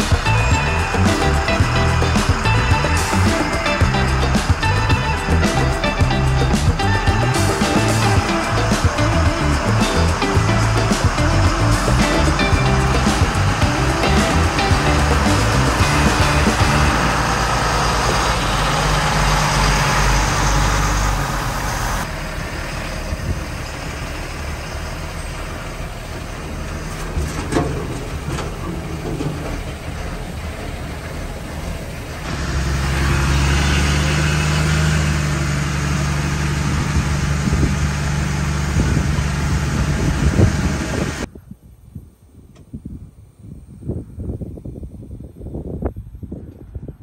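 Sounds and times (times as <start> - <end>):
military truck diesel engine: 0.0 - 41.3.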